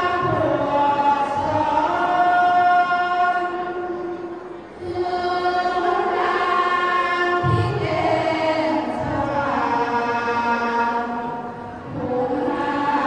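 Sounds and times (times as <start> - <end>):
women singing a devotional chant: 0.0 - 13.0.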